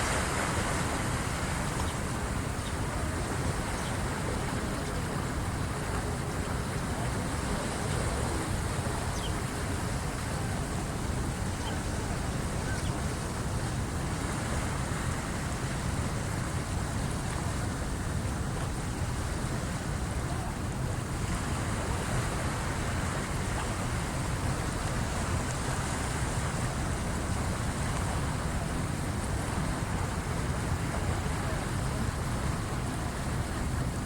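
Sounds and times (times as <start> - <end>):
waves washing in: 0.0 - 34.0
wind on microphone: 0.0 - 34.0.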